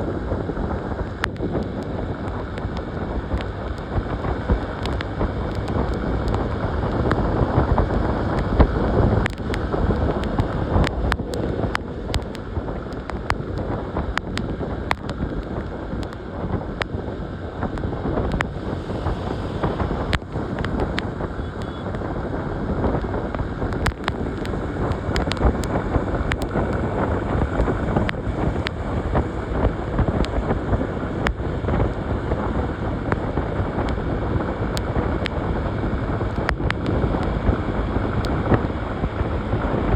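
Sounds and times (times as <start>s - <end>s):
motorcycle engine and road rumble: 0.0s - 39.9s
wind buffeting microphone: 0.0s - 39.9s
wind crackles on microphone: 0.0s - 39.9s.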